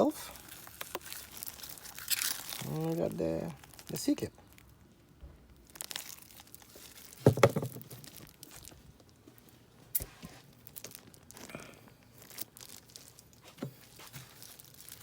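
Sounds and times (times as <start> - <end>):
rustling of crinkly packaging: 0.0 - 15.0.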